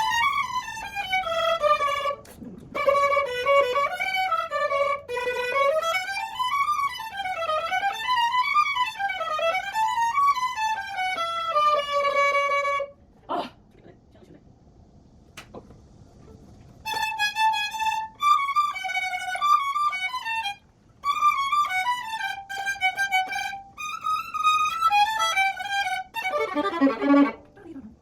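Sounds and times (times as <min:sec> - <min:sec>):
solo violin playing: 0:00.0 - 0:13.0, 0:16.8 - 0:28.0.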